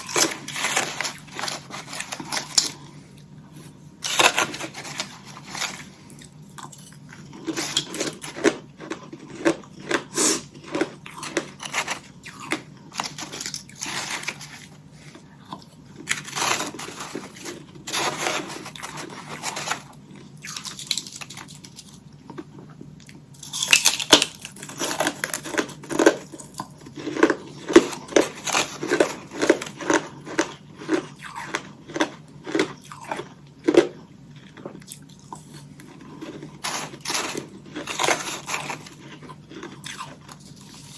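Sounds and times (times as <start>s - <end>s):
chewing crunchy ice: 0.0s - 3.4s, 4.0s - 40.9s.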